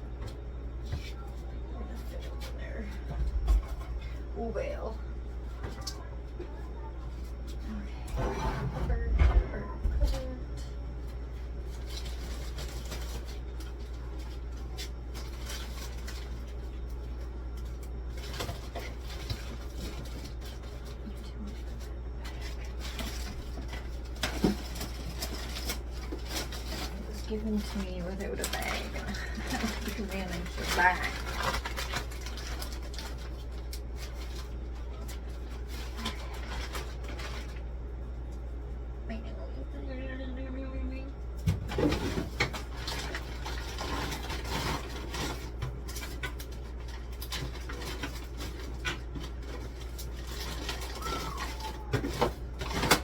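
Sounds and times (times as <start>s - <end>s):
groceries clicking and rustling: 0.0s - 38.6s, 41.3s - 53.0s
fridge low hum: 0.0s - 53.0s.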